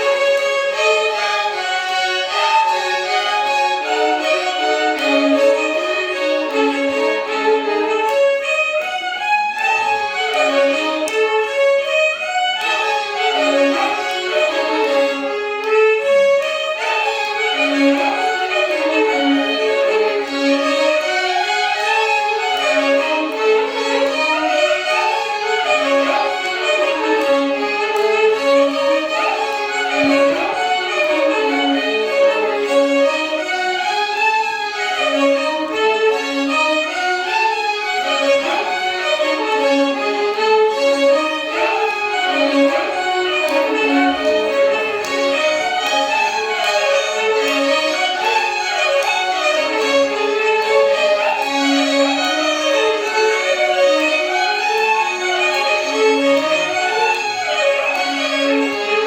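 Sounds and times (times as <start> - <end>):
violin ensemble melody: 0.0 - 59.0.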